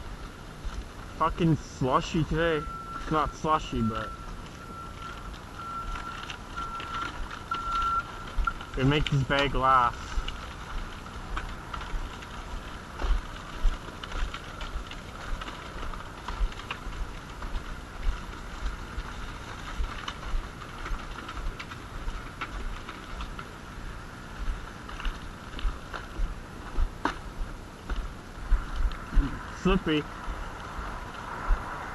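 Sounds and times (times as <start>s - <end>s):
salt granules scattering on pavement: 0.1s - 31.9s.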